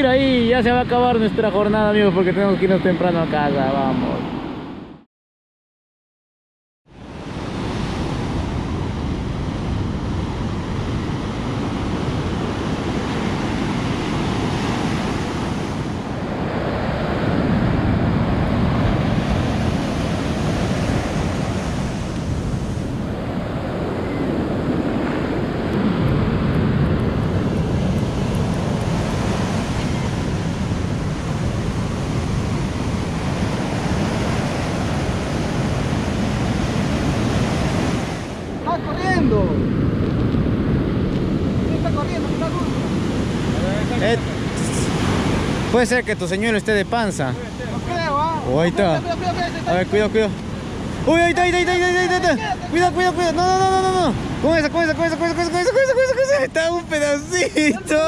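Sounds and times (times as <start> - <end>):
ocean surf breaking on beach: 0.0 - 4.9, 6.9 - 58.0
wind buffeting microphone: 7.1 - 58.0.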